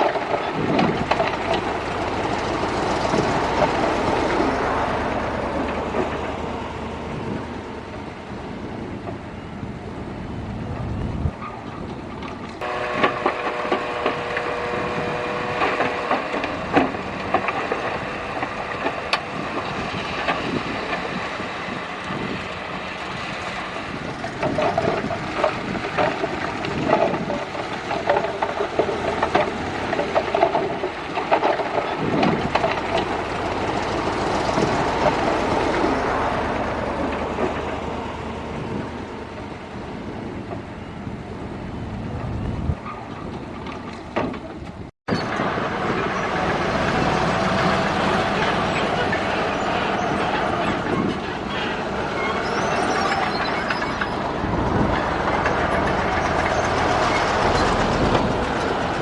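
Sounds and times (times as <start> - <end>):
diesel engine under load: 0.0 - 59.0
steel tracks clanking: 0.0 - 59.0.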